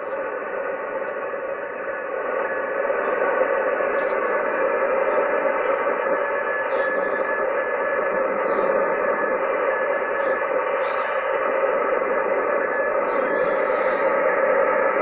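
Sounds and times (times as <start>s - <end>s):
morse code tone: 0.0s - 15.0s
radio static hiss: 0.0s - 15.0s.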